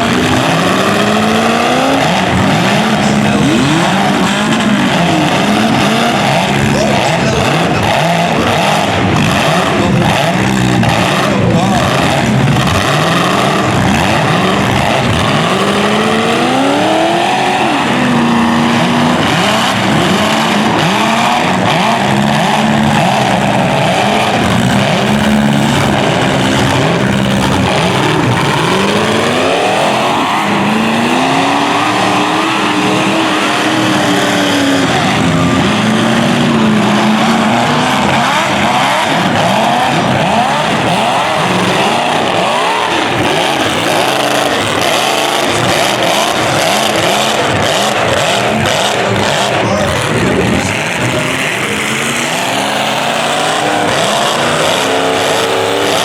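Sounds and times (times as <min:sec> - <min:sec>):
car engines revving: 0:00.0 - 0:56.0
tire noise: 0:00.0 - 0:56.0.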